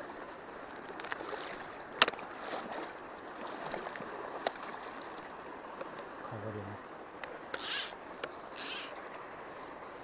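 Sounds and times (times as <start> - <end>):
stream water running: 0.0 - 10.0.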